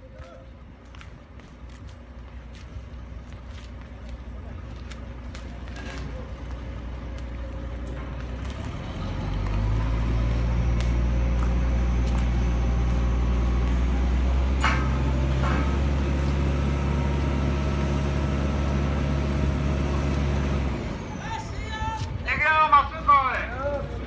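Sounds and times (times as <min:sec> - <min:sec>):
crane engine humming: 0:00.0 - 0:24.0.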